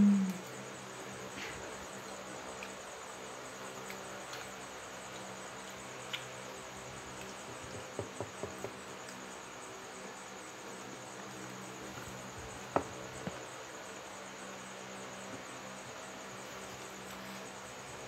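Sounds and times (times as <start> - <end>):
insects chirring: 0.0 - 18.0
low steady hum: 0.0 - 18.0.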